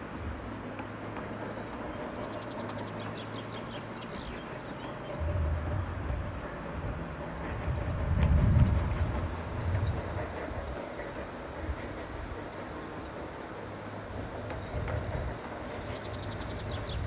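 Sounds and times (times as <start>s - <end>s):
distant steam train rumble: 0.0s - 17.0s.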